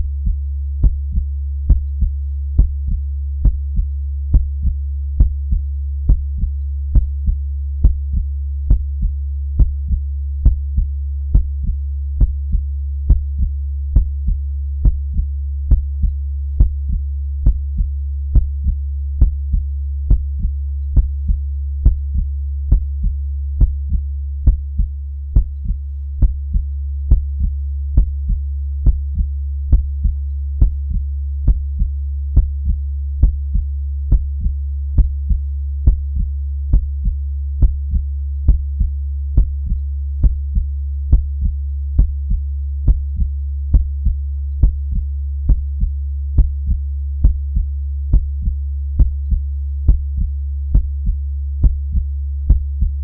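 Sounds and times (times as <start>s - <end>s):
constant low hum: 0.0s - 53.0s
slow heartbeat: 0.0s - 53.0s.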